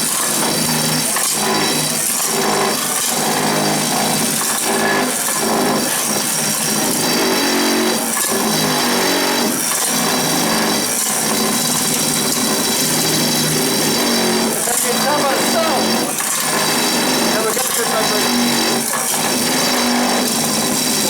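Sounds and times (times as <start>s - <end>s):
power vibrator buzzing: 0.0s - 21.0s.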